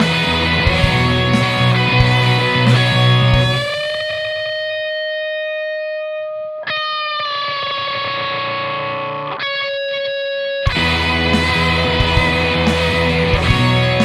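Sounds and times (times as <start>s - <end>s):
electric guitar sustained notes: 0.0s - 14.0s.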